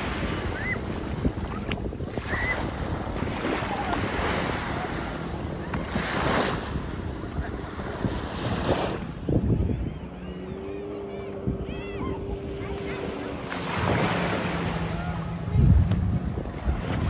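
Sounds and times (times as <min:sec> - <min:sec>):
small waves washing on a beach: 0:00.0 - 0:17.0
wind rumbling on microphone: 0:00.0 - 0:17.0.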